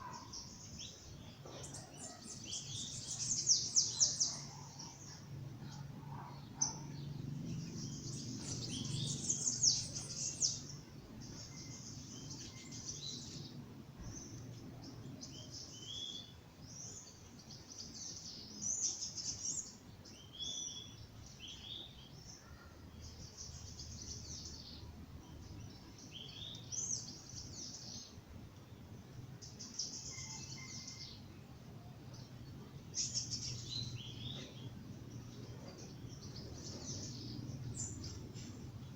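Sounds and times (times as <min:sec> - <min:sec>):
birds chirping and singing: 0:00.0 - 0:31.3, 0:32.0 - 0:38.9
faint low background hum: 0:00.0 - 0:38.9.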